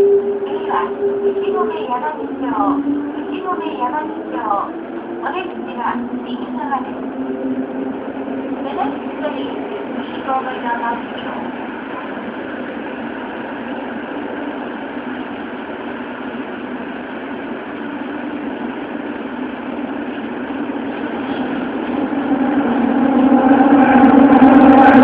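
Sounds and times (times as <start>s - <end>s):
subway train running noise: 0.0s - 25.0s.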